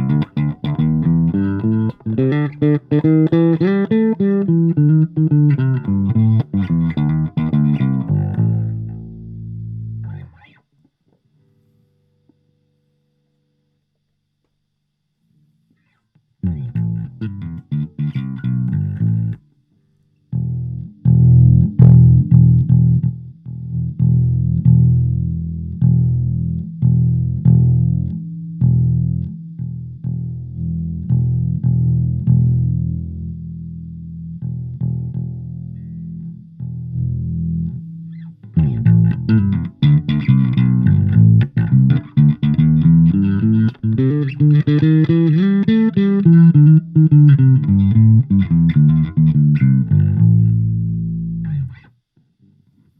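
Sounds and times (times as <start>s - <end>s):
electric bass playing: 0.0s - 10.6s, 16.4s - 19.4s, 20.3s - 51.9s.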